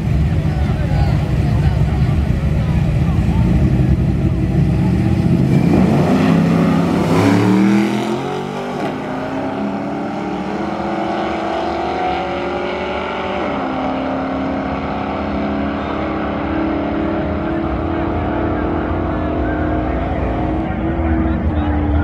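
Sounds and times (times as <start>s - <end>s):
drag race car engines revving: 0.0s - 22.0s.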